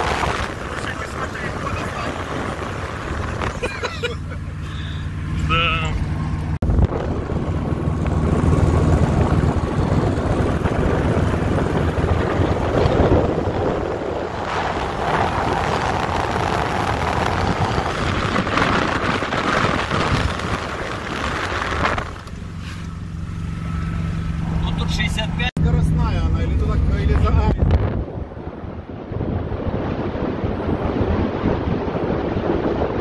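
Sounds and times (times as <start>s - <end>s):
car road and running noise: 0.0s - 33.0s
wind rushing over microphone: 0.0s - 33.0s.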